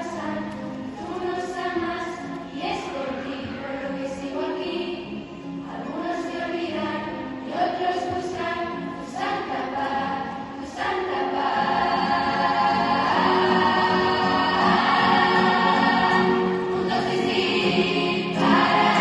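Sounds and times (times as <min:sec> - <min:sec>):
female choir singing: 0:00.0 - 0:19.0.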